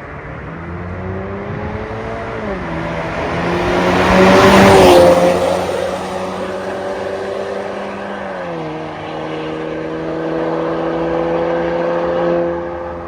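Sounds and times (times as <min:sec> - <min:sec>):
car accelerating past: 0:00.2 - 0:13.0.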